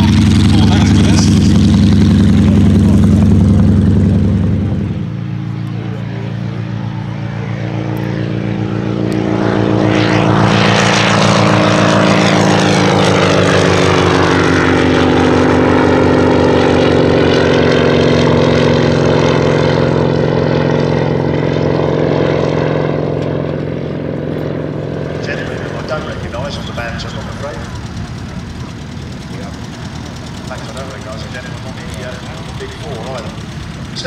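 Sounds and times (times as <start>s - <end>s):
propeller aircraft taking off: 0.0s - 34.0s.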